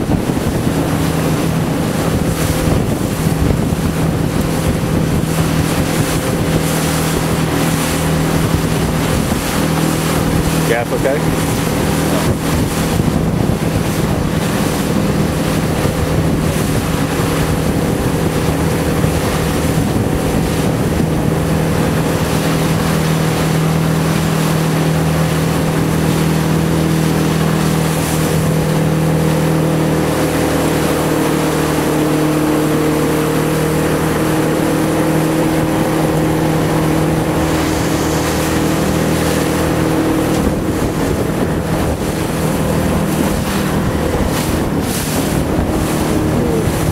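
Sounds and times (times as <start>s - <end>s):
motorboat engine running: 0.0s - 46.9s
water washing past: 0.0s - 46.9s
wind noise on microphone: 0.0s - 46.9s.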